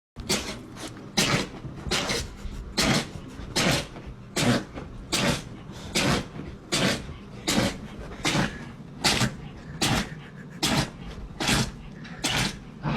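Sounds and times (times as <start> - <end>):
dog sneezing: 0.3 - 12.6.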